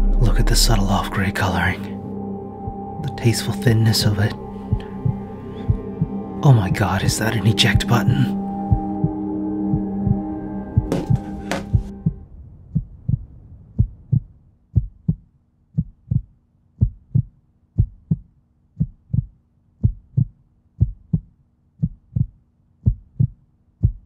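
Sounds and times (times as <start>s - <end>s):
heartbeat thumps: 2.6s - 3.3s, 4.6s - 7.2s, 7.8s - 24.0s.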